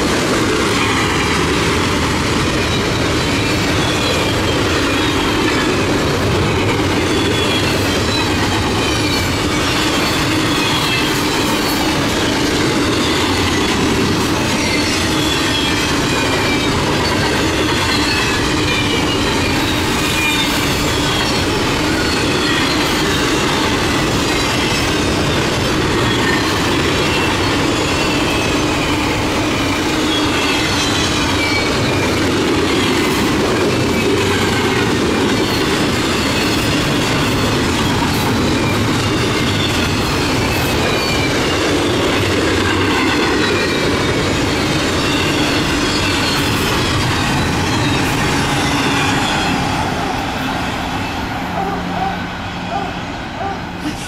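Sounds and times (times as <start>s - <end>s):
freight train wheel-on-rail noise: 0.0s - 54.0s
train wheels squealing: 0.7s - 54.0s.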